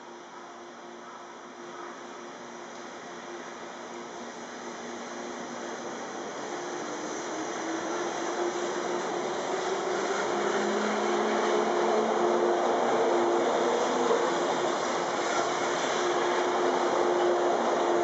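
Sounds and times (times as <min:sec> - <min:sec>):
electric train rolling past: 0:01.5 - 0:18.0.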